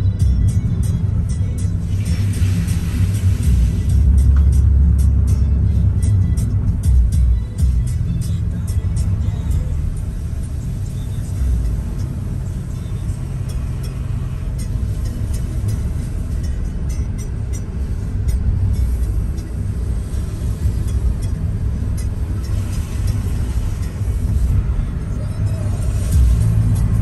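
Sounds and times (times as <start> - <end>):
engine and tyre rumble: 0.0 - 27.0.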